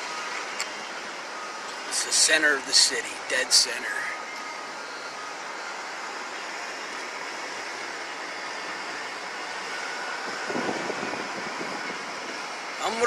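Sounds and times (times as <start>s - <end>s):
distant traffic hiss: 0.0s - 13.0s.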